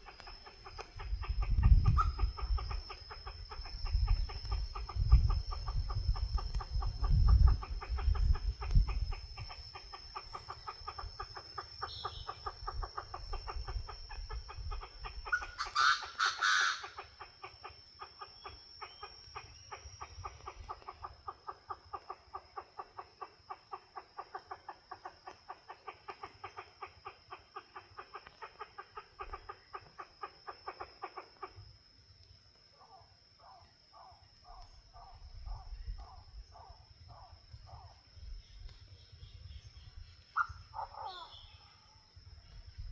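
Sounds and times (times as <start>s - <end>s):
recorded bird clucking call: 0.0s - 31.6s, 32.8s - 38.0s, 40.4s - 41.7s.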